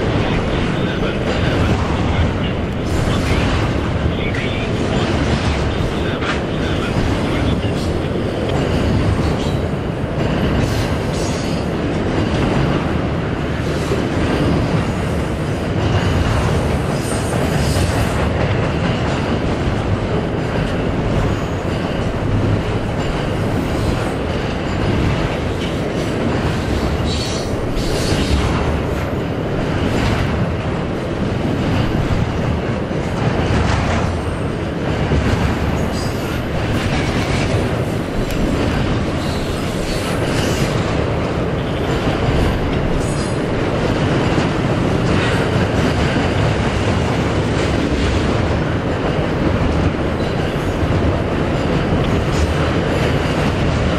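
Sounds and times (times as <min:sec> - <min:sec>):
freight train wheels rumbling on rail: 0:00.0 - 0:53.9.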